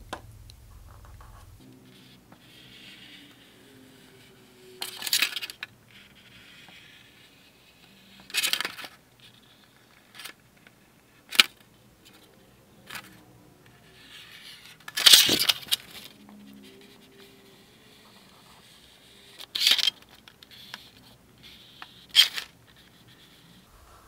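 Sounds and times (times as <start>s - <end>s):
marker scratching on plastic: 0.8s - 11.2s, 12.0s - 23.8s.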